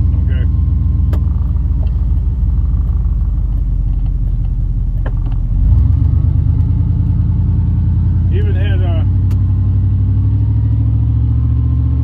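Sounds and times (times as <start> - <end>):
road rumble: 0.0 - 12.0
truck engine: 0.0 - 12.0.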